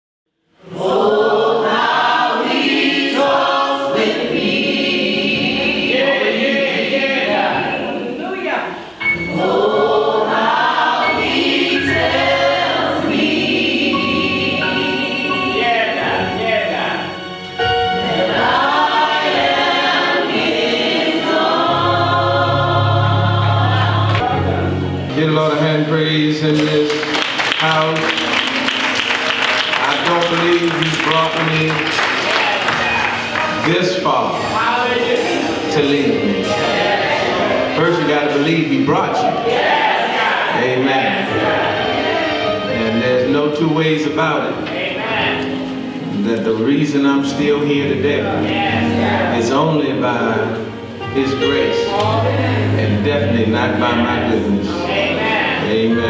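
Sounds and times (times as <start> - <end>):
choir singing gospel music: 0.4 - 56.0.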